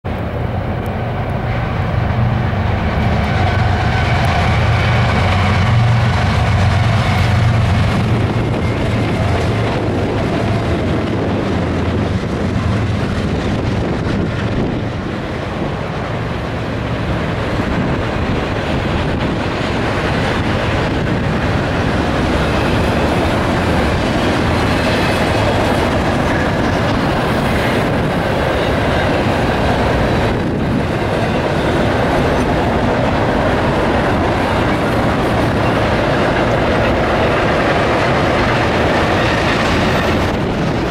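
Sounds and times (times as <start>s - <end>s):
diesel locomotive engine drone: 0.0s - 40.9s
train wheels rolling on rails: 0.1s - 40.9s.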